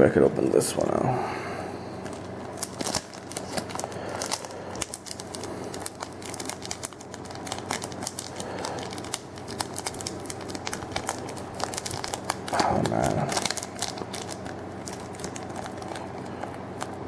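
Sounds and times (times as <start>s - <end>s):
foil wrapper crinkling: 2.0s - 17.0s.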